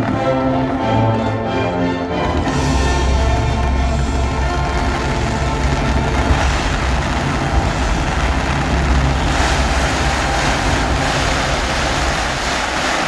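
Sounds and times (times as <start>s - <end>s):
loud music: 0.0s - 13.0s
fireworks barrage: 2.2s - 13.0s.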